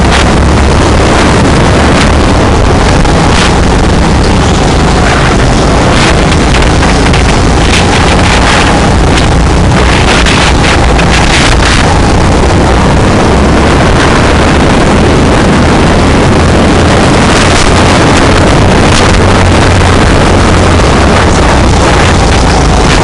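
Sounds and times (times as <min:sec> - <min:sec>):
go-kart engine running: 0:00.0 - 0:23.0
wind buffeting microphone: 0:00.0 - 0:23.0.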